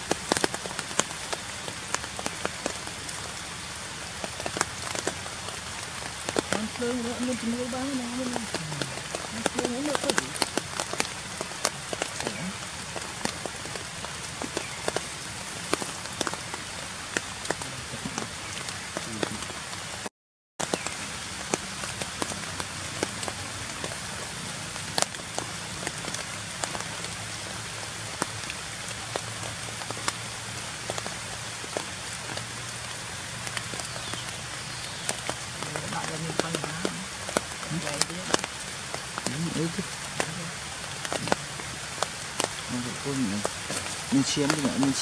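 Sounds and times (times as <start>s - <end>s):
rain pattering on leaves: 0.0s - 45.0s.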